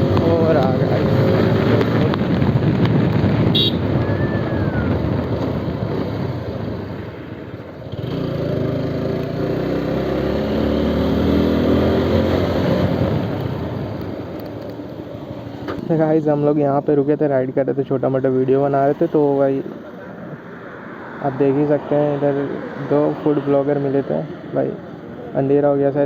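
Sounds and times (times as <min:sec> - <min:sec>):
road noise: 0:00.0 - 0:26.0.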